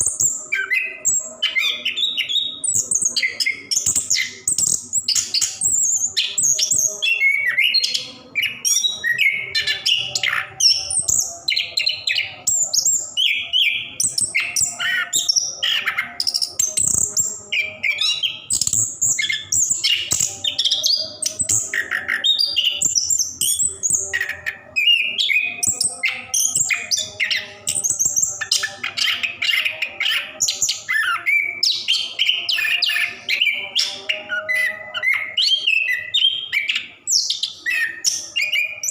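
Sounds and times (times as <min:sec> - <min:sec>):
thrush singing: 0:00.0 - 0:38.9.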